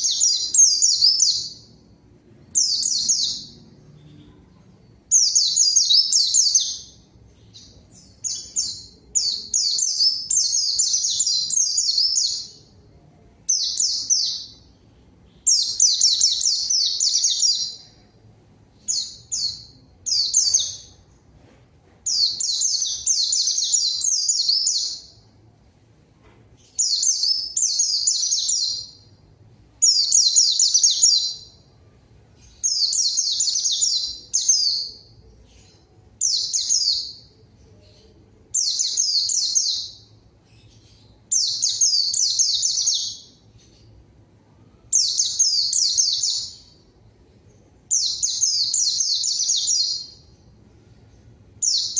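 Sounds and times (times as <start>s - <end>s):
bird high trilling song: 0.0s - 1.8s, 2.5s - 12.8s, 13.4s - 21.2s, 22.0s - 25.2s, 26.6s - 29.2s, 29.8s - 44.0s, 44.7s - 46.9s, 47.9s - 50.4s, 51.2s - 51.9s.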